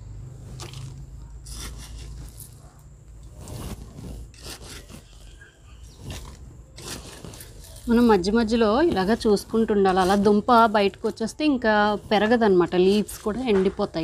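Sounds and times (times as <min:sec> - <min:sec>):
soil scraping and rustling: 0:00.2 - 0:14.0.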